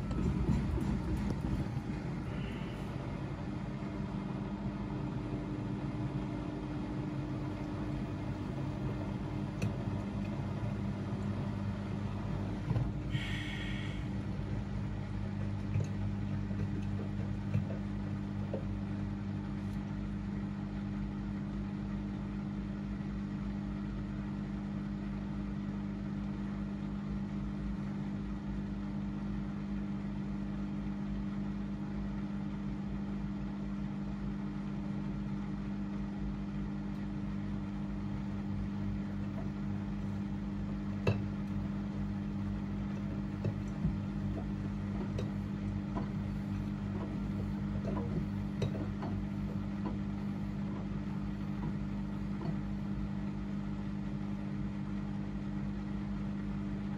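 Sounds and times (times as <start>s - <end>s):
washing machine motor hum: 0.0s - 56.9s.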